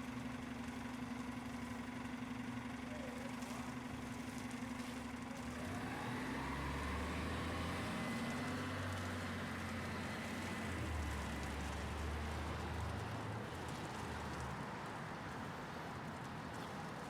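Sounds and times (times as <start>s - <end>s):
traffic engine rumble: 0.1s - 17.0s.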